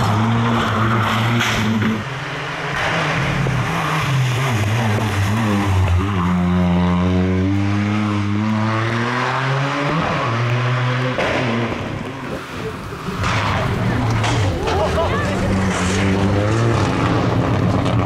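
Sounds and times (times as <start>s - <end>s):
rally car engine driving past: 0.0s - 18.0s.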